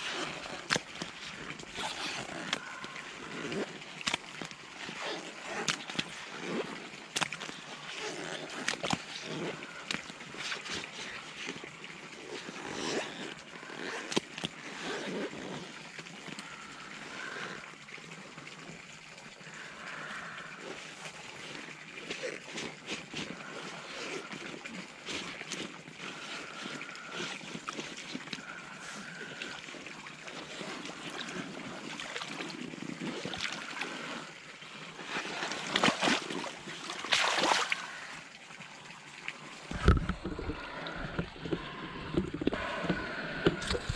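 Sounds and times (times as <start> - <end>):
wading in muddy water: 0.0 - 43.9
water splashing: 0.0 - 43.9.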